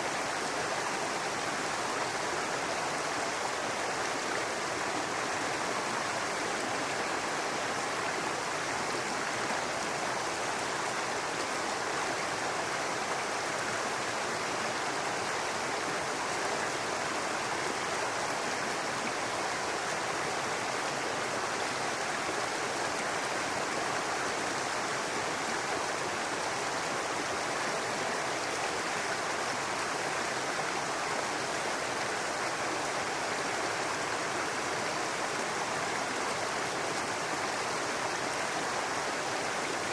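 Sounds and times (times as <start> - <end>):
brook flowing over rocks: 0.0 - 39.9.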